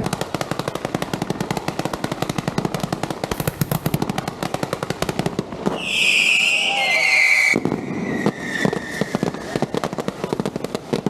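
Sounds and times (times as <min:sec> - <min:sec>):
firecrackers going off: 0:00.0 - 0:11.0.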